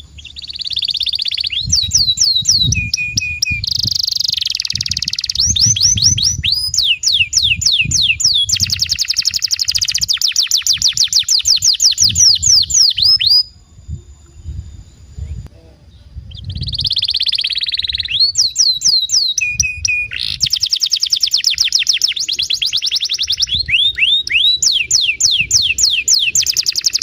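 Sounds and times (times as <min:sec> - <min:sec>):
canary singing trills: 0:00.0 - 0:27.0.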